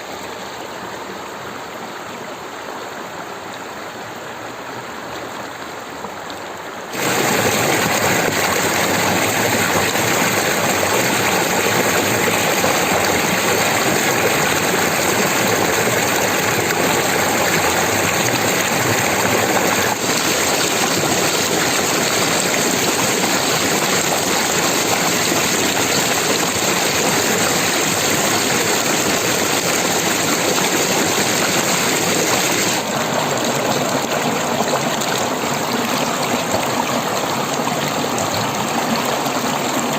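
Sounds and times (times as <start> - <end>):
stream water rushing and splashing: 0.0 - 39.9.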